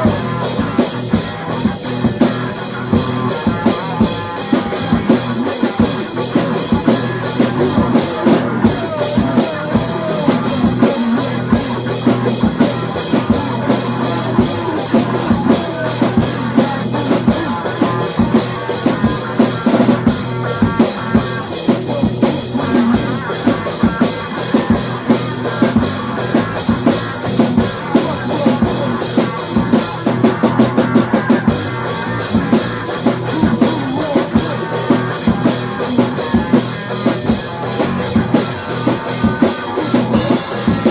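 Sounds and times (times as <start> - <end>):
drum kit beating: 0.0 - 40.9
instrumental rock music: 0.0 - 40.9.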